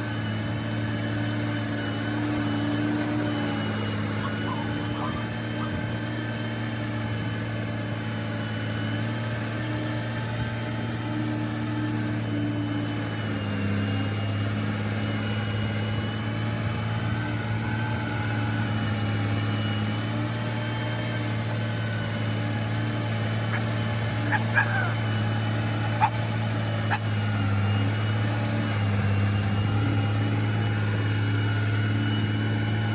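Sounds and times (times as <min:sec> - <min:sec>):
heavy machine engine humming: 0:00.0 - 0:32.9.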